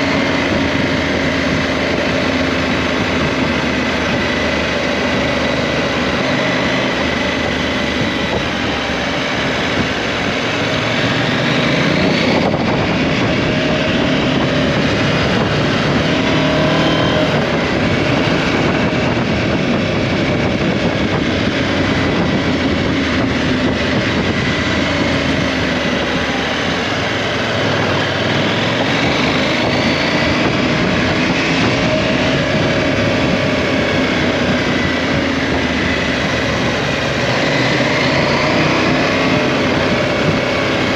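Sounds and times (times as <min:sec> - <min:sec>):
motorcycle engine accelerating: 0:00.0 - 0:40.9
steady rushing noise: 0:00.0 - 0:40.9.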